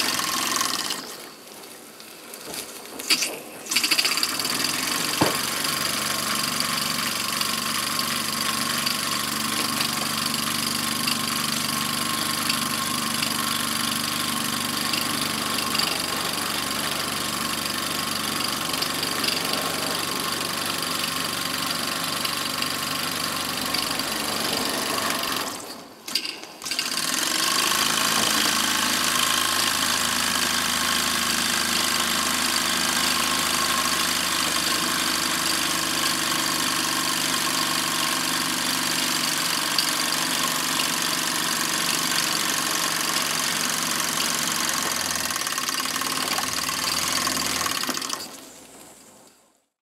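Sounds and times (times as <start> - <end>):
model steam engine running: 0.0 - 1.3, 3.1 - 48.3.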